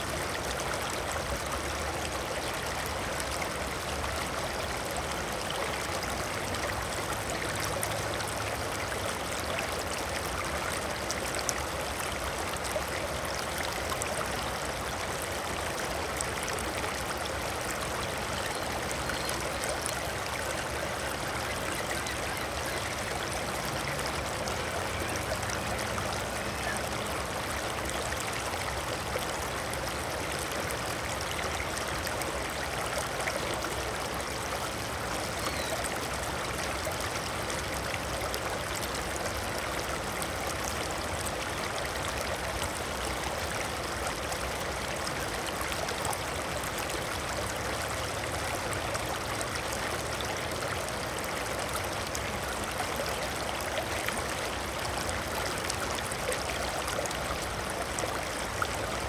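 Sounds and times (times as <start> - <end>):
water flowing: 0.0 - 59.0.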